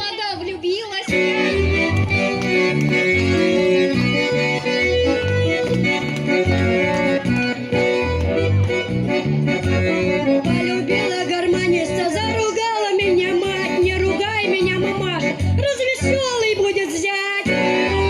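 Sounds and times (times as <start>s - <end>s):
button accordion playing folk tune: 1.1s - 15.6s, 17.5s - 18.0s.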